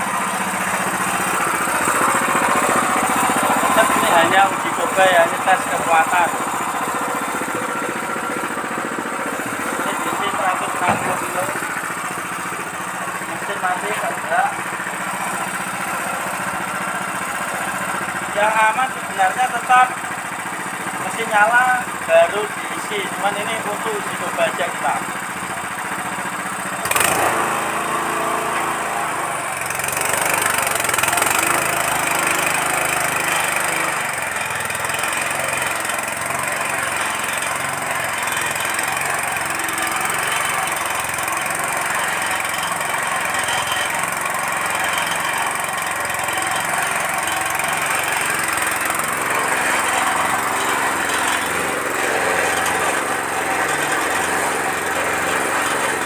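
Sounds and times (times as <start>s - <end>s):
feed mixer churning: 0.0s - 56.0s
small petrol engine running: 0.0s - 56.0s.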